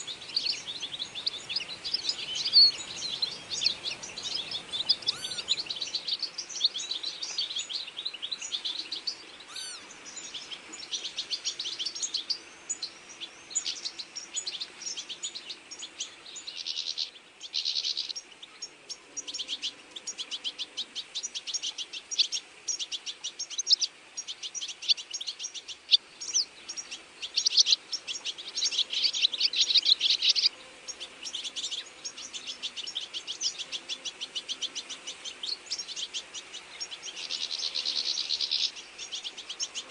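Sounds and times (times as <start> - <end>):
dense chorus of small birds chirping: 0.0 - 39.9.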